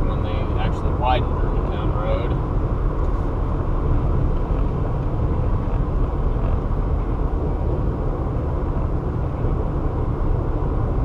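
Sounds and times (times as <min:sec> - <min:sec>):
car road and tyre noise: 0:00.0 - 0:11.0.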